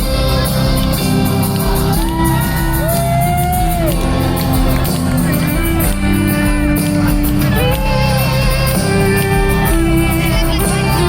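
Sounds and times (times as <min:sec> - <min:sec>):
live band playing slow instrumental: 0:00.0 - 0:11.0.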